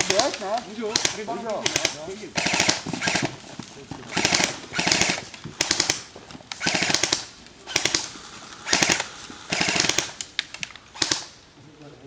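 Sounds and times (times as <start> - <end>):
airsoft guns firing bursts: 0.0 - 3.3, 4.1 - 10.2, 10.9 - 11.4.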